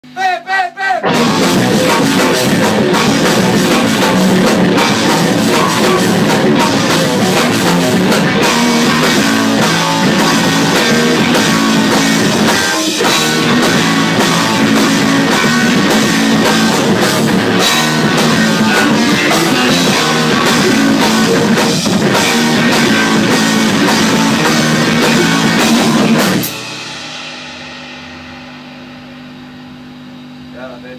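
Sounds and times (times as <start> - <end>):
rock band playing: 1.0 - 29.7.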